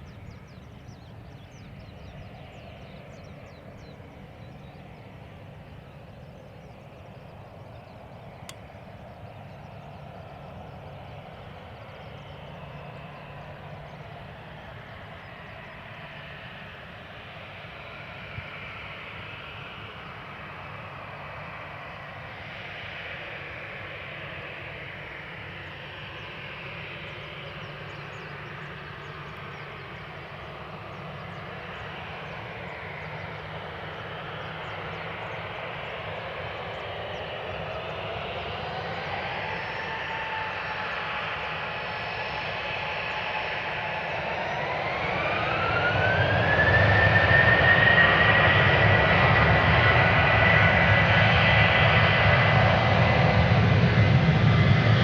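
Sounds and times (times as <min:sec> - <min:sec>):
rising engine whine: 0:00.0 - 0:55.0
jet engines spooling up: 0:07.3 - 0:55.0.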